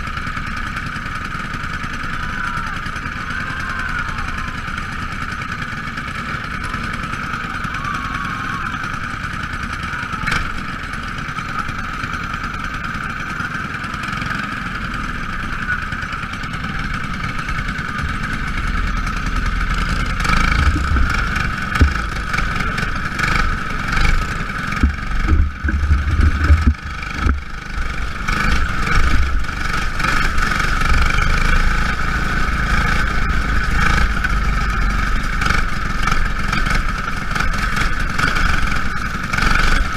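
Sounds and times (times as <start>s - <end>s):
small racing engines droning: 0.0s - 39.9s.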